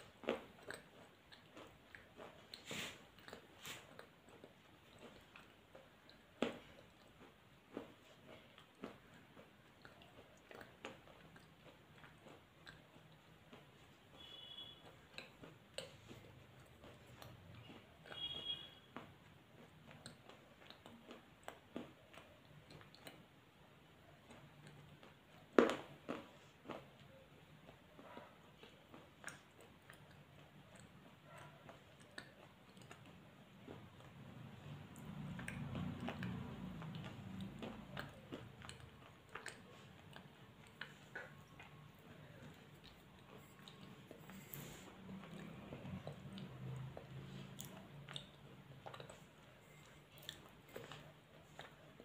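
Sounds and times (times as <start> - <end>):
mouth crunching and chewing: 0.0 - 52.0.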